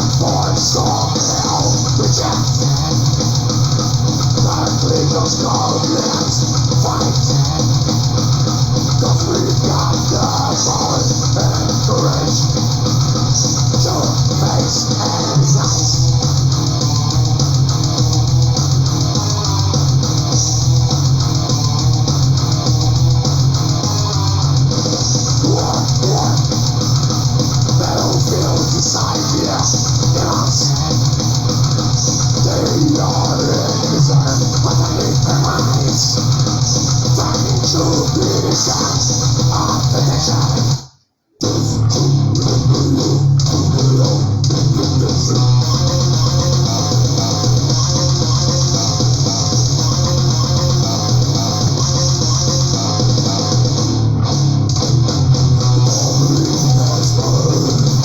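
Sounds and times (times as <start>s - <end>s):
bass guitar: 0.0s - 58.0s
distorted electric guitars: 0.0s - 58.0s
drum kit playing: 0.0s - 58.0s.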